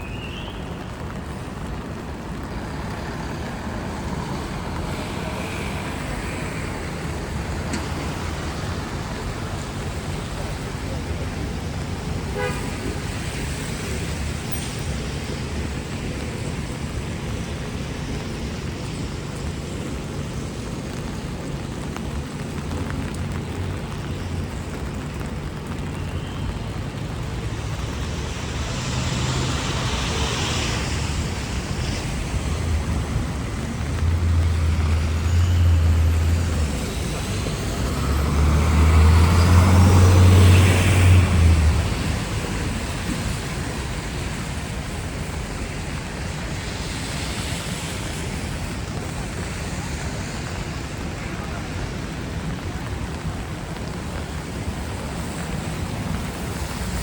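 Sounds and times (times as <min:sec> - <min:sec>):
hum of traffic engines: 0:00.0 - 0:57.0
tyre hiss on wet road: 0:00.0 - 0:57.0
heavy vehicles rumbling past: 0:00.8 - 0:57.0.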